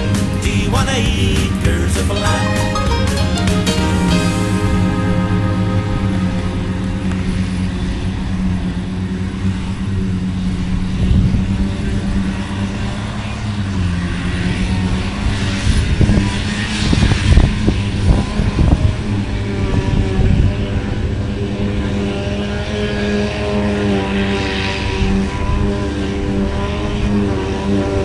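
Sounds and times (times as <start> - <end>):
diesel engines droning: 0.0 - 28.0.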